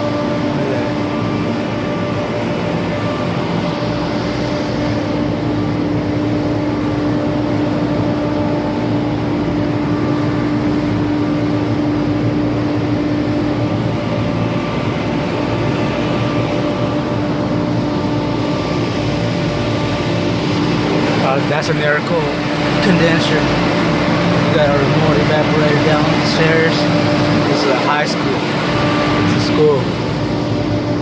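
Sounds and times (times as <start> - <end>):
large fan motor whirring: 0.0 - 31.0.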